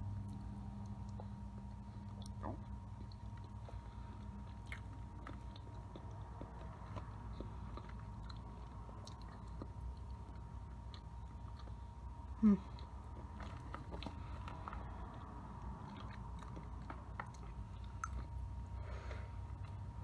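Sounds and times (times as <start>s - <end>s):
background hum with high tone: 0.0s - 20.0s
person chewing: 0.2s - 20.0s.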